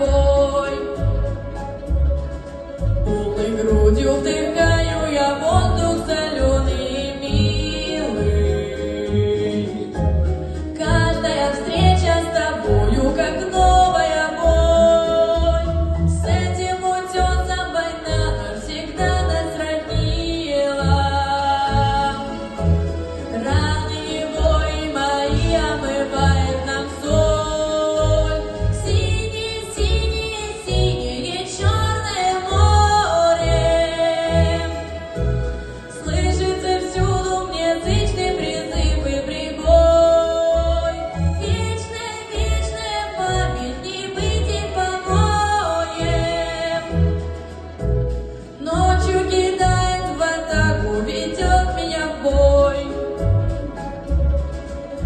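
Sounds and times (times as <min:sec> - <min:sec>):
woman singing: 0:00.0 - 0:01.5, 0:03.1 - 0:47.6, 0:48.6 - 0:53.6
instrumental backing track: 0:00.0 - 0:55.0.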